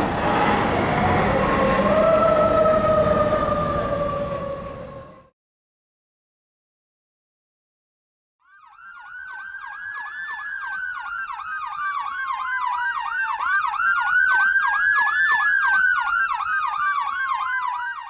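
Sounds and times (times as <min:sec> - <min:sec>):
siren wail: 0:00.0 - 0:05.3, 0:08.4 - 0:18.0
electronic siren yelp: 0:00.2 - 0:05.3, 0:08.4 - 0:18.0.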